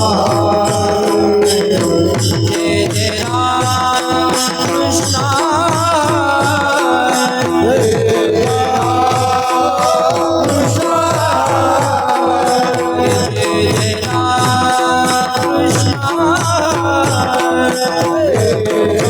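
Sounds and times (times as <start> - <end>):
hand drum steady beat: 0.0 - 19.0
held accompanying notes: 0.0 - 19.0
person singing: 0.0 - 19.0.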